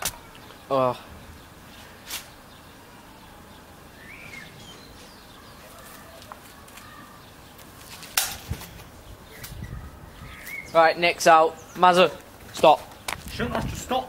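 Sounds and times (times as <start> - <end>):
bird chirp: 0.2 - 14.0.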